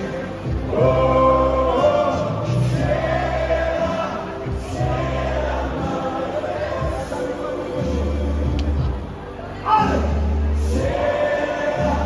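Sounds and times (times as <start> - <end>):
crowd singing along: 0.0 - 12.0
loud party music: 0.0 - 12.0.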